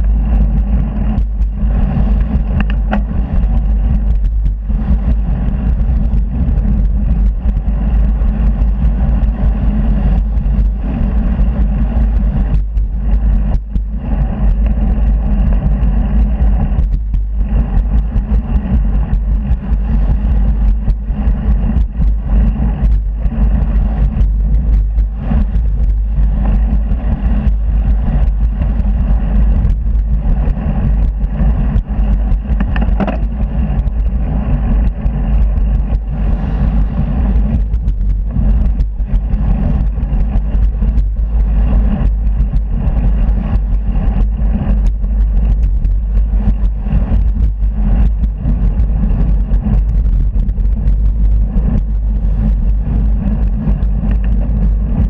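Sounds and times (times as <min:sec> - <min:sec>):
road traffic rumble: 0:00.0 - 0:55.0
wind buffeting microphone: 0:00.0 - 0:55.0.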